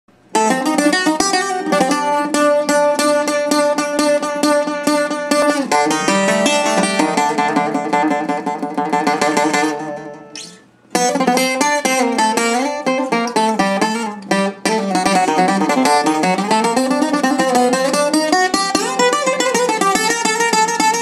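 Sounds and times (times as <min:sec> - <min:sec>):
bouzouki fast picked notes: 0:00.2 - 0:21.0.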